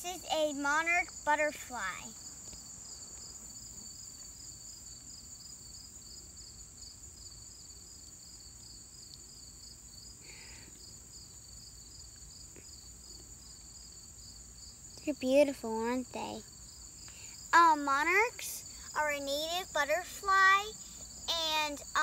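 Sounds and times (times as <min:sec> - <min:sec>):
crickets trilling: 0:00.0 - 0:22.0
pulsing insect chirps: 0:00.0 - 0:22.0.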